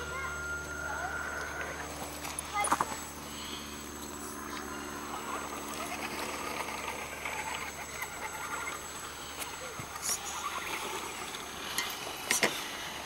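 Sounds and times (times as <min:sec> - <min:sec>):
small electric motor whirring: 0:00.0 - 0:13.0.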